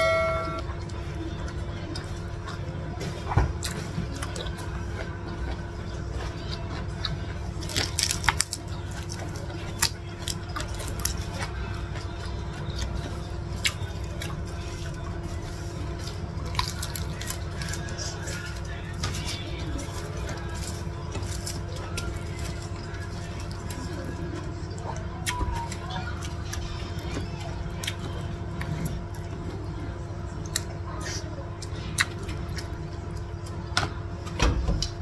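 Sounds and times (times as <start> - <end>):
low hum: 0.0 - 35.0
wet chewing and smacking: 0.8 - 33.8.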